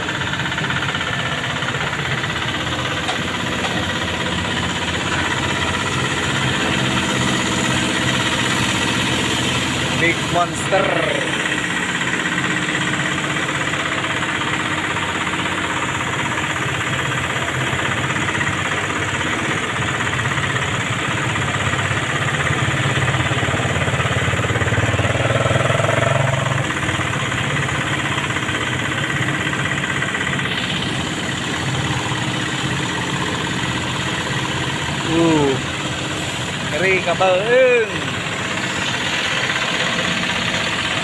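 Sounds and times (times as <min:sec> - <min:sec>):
diesel truck engine running: 0:00.0 - 0:41.0.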